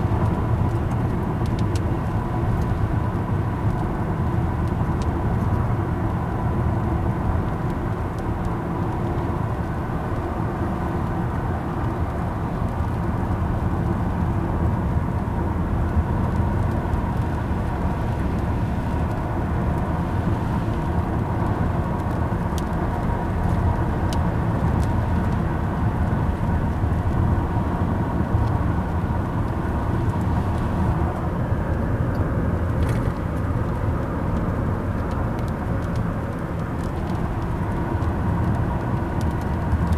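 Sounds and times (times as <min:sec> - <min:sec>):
tyre and engine rumble: 0:00.0 - 0:39.9.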